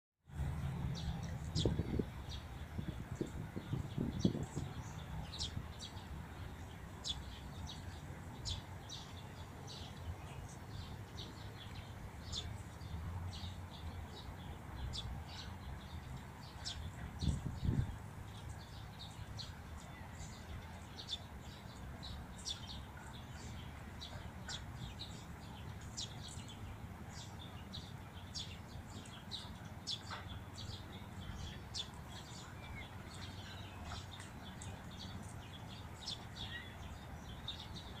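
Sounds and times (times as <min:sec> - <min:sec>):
small birds chirping: 0:00.3 - 0:38.0.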